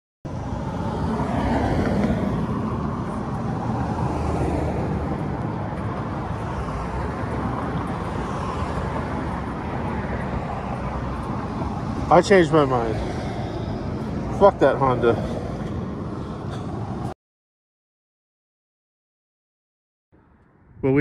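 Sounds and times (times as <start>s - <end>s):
road traffic noise: 0.3s - 17.2s.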